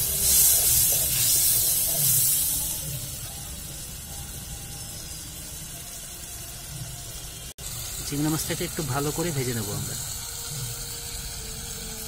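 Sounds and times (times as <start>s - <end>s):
prawns sizzling in hot oil: 0.0s - 12.0s.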